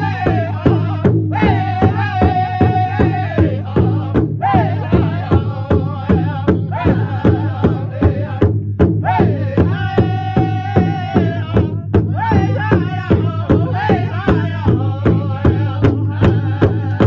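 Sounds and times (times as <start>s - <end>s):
drum beating steadily: 0.0s - 17.0s
men chanting in high voices: 0.0s - 17.0s.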